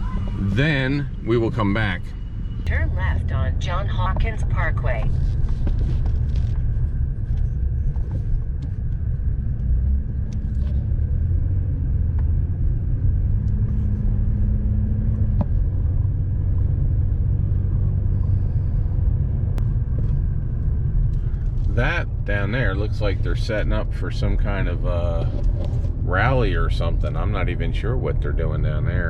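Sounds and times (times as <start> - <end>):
faint high whine: 0.0 - 14.2, 16.9 - 29.0
car engine and road rumble: 0.0 - 29.0.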